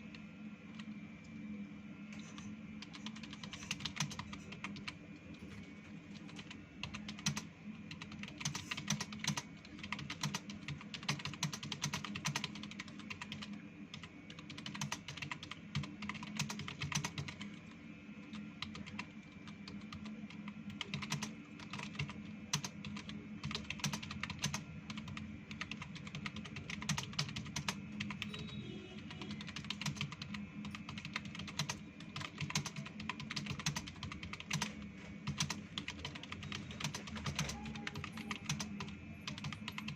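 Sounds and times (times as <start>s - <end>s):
fast typing on keyboard: 2.2s - 39.9s.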